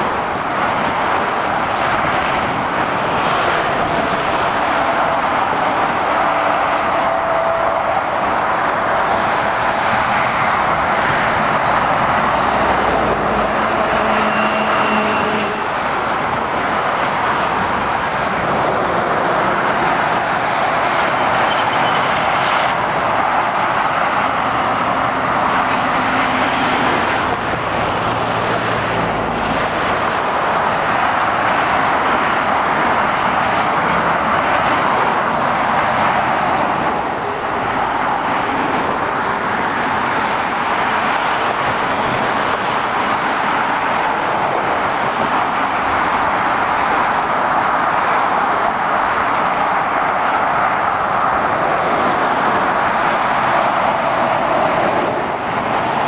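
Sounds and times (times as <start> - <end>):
diesel truck engines humming: 0.0 - 56.0
tyre roar of traffic: 0.0 - 56.0.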